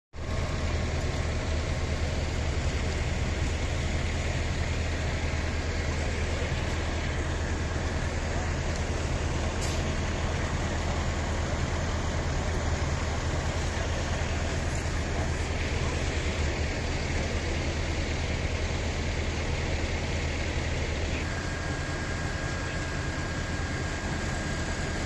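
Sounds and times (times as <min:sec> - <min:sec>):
diesel engines idling: 0:00.2 - 0:25.0
street noise: 0:00.2 - 0:25.0.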